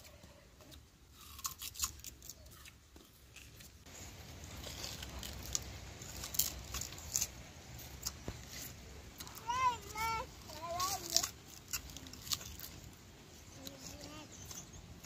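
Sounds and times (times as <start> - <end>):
people chewing sugarcane crunching: 0.0 - 15.0.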